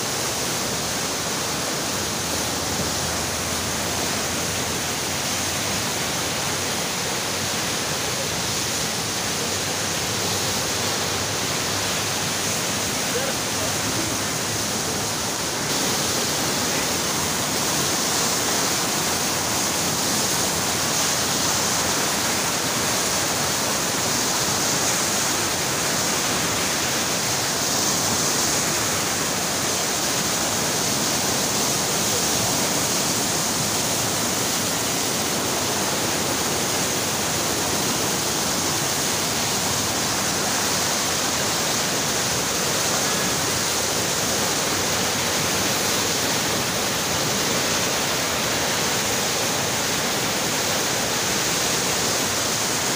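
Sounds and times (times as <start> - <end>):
river water rushing: 0.0 - 52.9.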